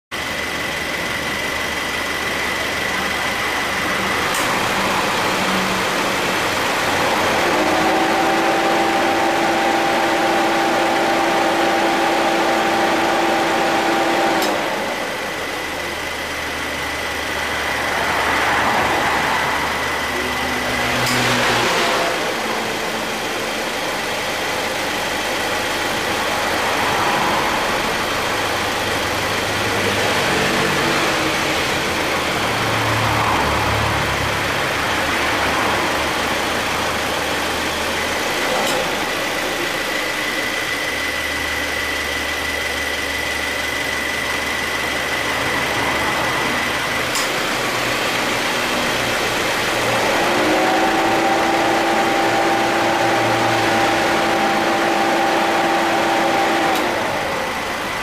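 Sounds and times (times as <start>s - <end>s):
car engine idling: 0.1s - 58.0s
high whine: 0.2s - 58.0s.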